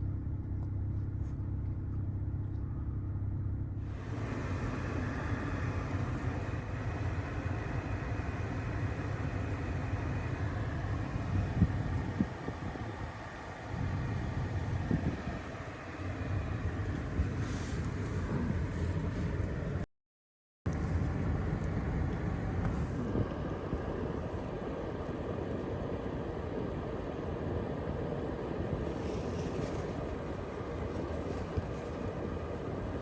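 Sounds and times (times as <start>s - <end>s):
car cabin rumble with hiss: 0.0s - 19.8s, 20.7s - 33.0s.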